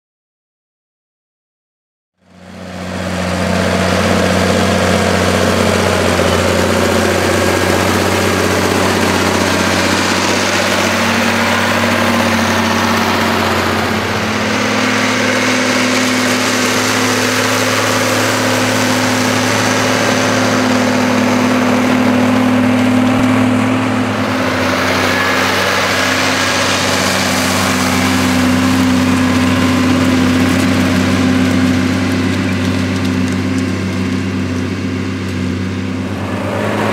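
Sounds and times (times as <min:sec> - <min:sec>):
tractor diesel engine under load: 0:02.2 - 0:36.9.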